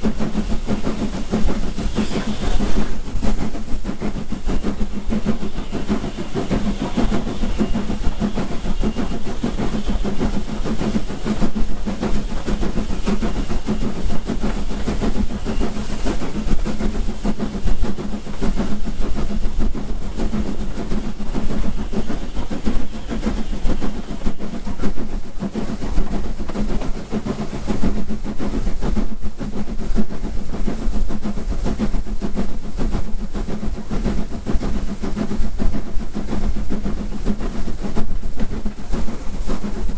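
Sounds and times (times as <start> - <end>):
steam locomotive chuffing: 0.0 - 39.9
train clatter on rails: 0.0 - 39.9.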